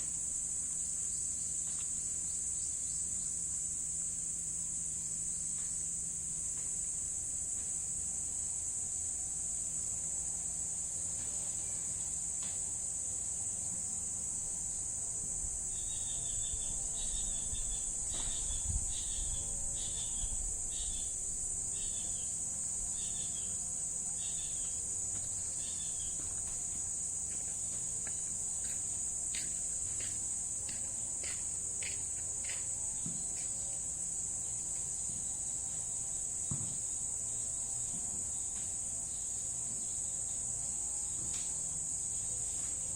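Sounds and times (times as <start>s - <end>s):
insect chorus droning: 0.0s - 42.9s.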